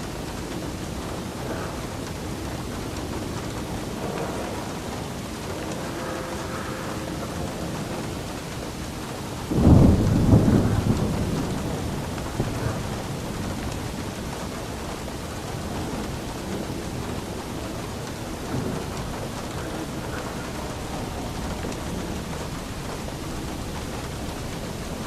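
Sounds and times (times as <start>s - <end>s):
rumble of thunder: 0.0s - 25.0s
steady rain: 0.0s - 25.0s.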